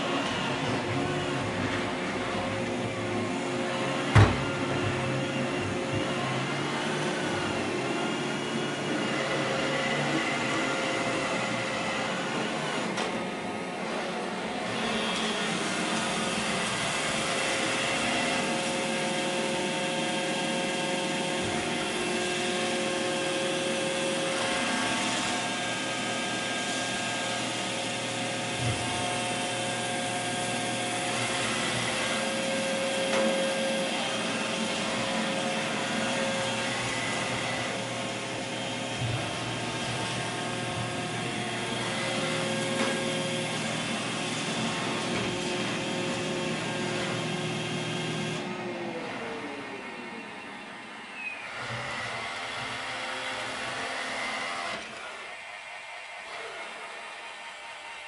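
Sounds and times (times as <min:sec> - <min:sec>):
robot vacuum whirring: 0:00.1 - 0:50.0.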